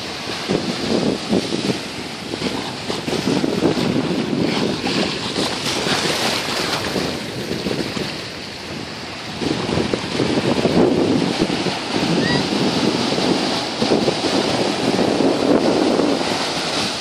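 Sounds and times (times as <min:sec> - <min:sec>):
small waves breaking on sand: 0:00.0 - 0:17.0
wind buffeting microphone: 0:00.0 - 0:17.0.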